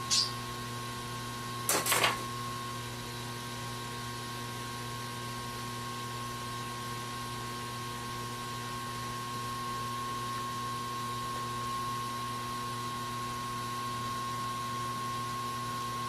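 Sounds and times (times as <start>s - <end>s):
electrical hum with high whine: 0.0s - 16.0s.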